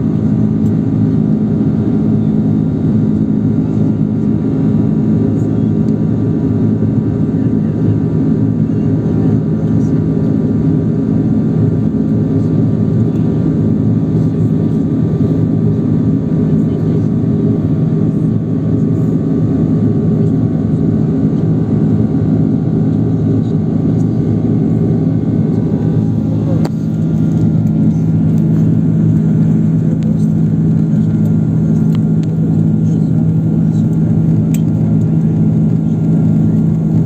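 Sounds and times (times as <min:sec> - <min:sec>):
constant low hum: 0:00.0 - 0:37.0
jet engines droning: 0:00.0 - 0:37.0.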